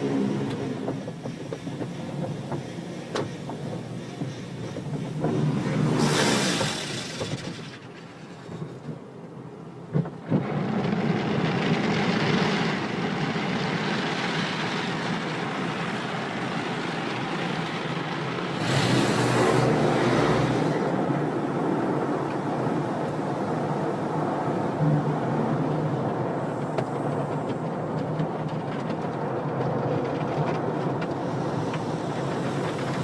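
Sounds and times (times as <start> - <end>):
car wash rushing noise: 0.0 - 33.0.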